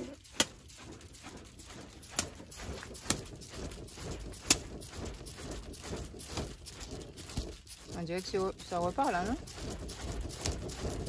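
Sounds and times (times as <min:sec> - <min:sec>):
wood fire crackling: 0:00.0 - 0:11.0
sharp fire pops: 0:02.1 - 0:11.0.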